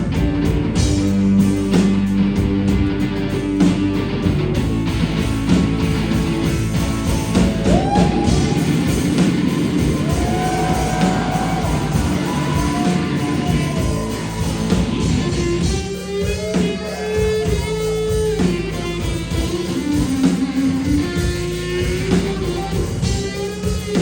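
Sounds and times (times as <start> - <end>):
electric guitar bending notes: 0.0 - 23.6
drums: 0.0 - 24.0.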